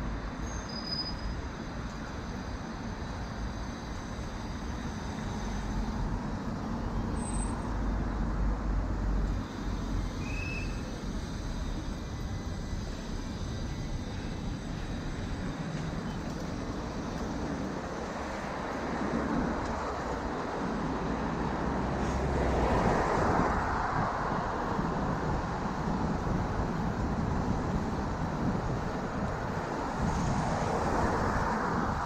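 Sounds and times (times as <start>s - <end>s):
low traffic rumble: 0.0s - 32.0s
passing cars and buses: 0.0s - 32.0s.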